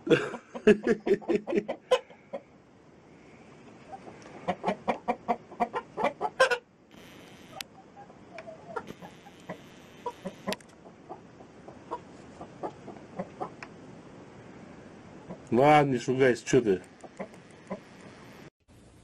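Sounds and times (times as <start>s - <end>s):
hens clucking: 0.0s - 2.6s, 3.7s - 6.7s, 7.5s - 13.8s, 15.1s - 18.5s.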